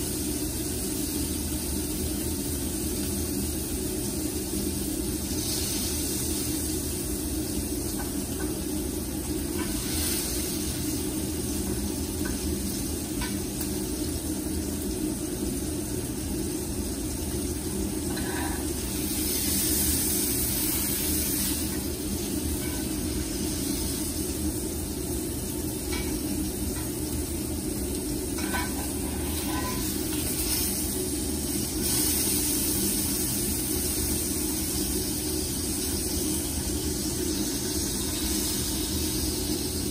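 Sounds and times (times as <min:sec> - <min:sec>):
steak sizzling in a skillet: 0:00.0 - 0:39.9.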